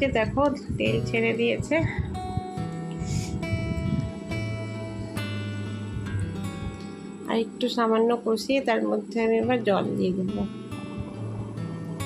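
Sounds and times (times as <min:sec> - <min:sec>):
plucked acoustic guitar: 0:00.0 - 0:07.8, 0:09.4 - 0:12.0.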